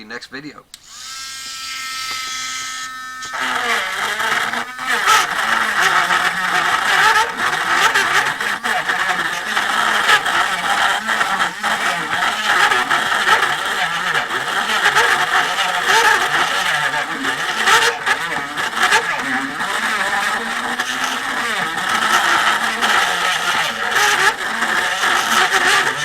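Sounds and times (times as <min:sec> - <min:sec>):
rotary tool grinding wood: 0:00.7 - 0:26.0.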